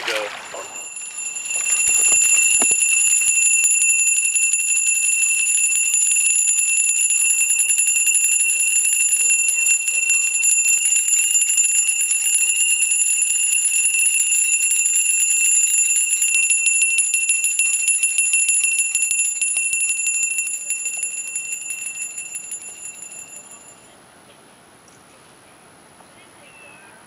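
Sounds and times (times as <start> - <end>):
handbells ringing rapidly: 0.2 - 23.9.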